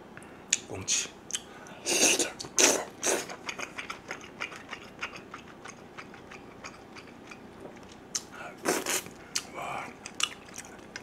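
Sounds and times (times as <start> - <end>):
wet chewing mouth clicks: 1.3 - 11.0.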